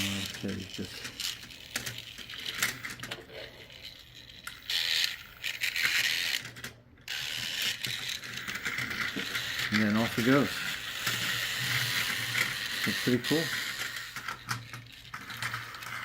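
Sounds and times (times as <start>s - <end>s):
toy motor whirring with clatter: 0.0s - 16.0s.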